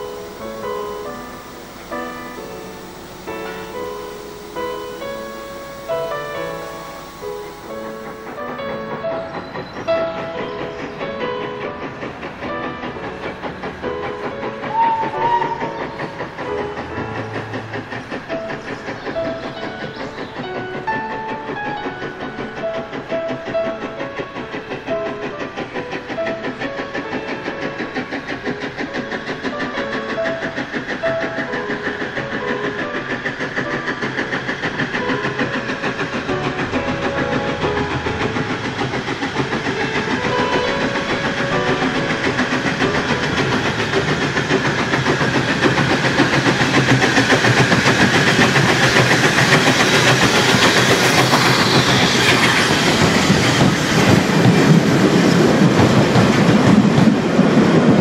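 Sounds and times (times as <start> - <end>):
steam hissing: 0.0 - 58.0
steam locomotive exhaust beats: 0.0 - 58.0.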